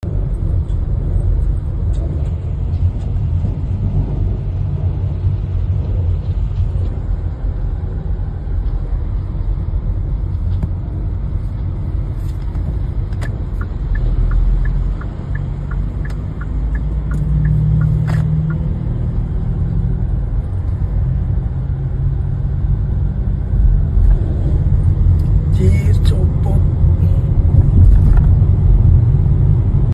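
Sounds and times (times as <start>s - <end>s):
car engine and road rumble: 0.0s - 29.9s.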